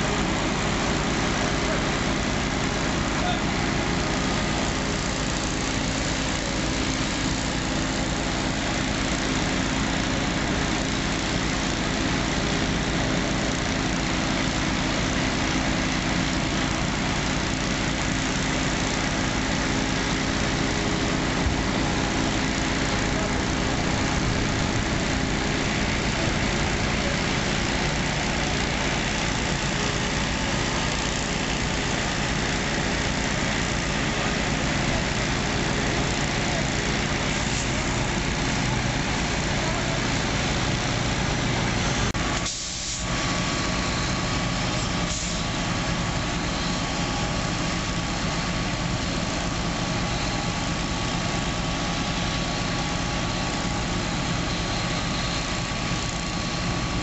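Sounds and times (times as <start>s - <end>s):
fire engine running: 0.0s - 57.0s.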